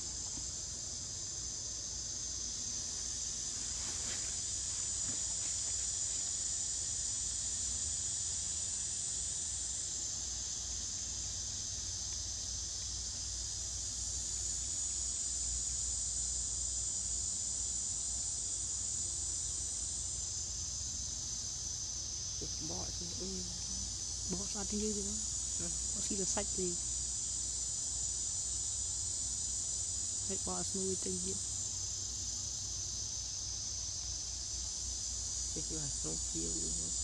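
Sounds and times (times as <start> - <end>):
insects buzzing shrilly: 0.0 - 37.0.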